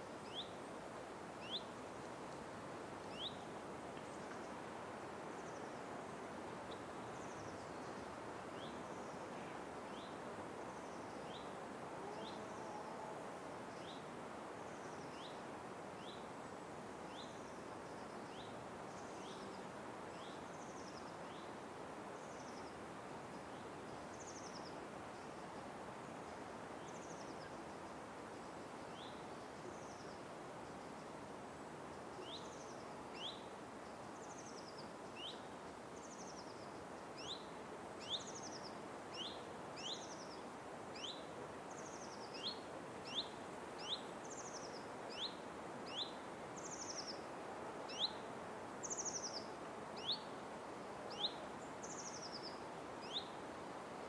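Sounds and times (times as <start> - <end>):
forest background hiss: 0.0 - 54.0.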